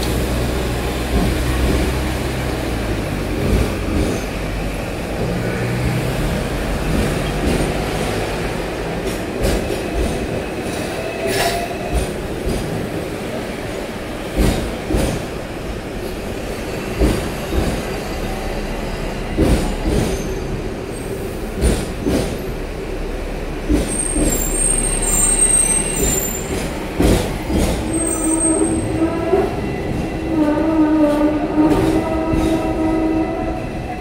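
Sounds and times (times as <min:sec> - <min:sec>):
tram rumbling on rails: 0:00.0 - 0:34.0.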